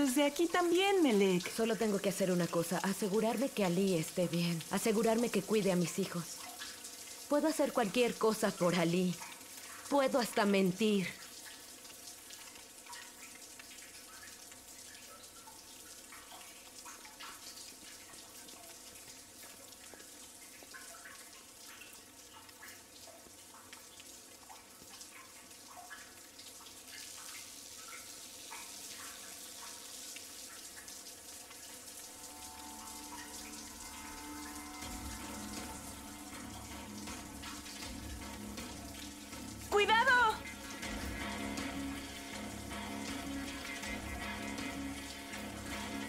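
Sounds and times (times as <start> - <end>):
tap water running into sink: 0.0 - 46.0
water splashes and drips: 0.0 - 46.0.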